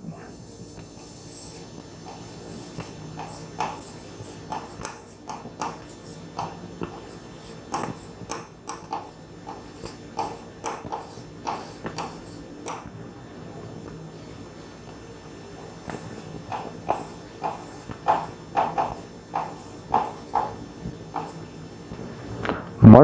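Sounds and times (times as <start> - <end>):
pen writing on a whiteboard: 0.0 - 22.0.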